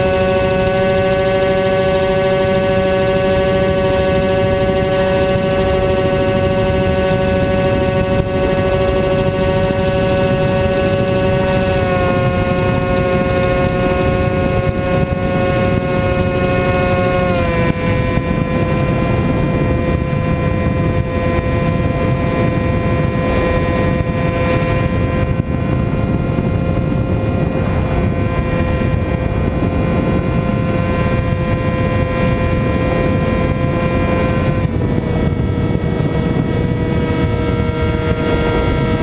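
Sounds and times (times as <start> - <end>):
model aircraft motor droning: 0.0 - 39.0
wind rush: 0.0 - 39.0.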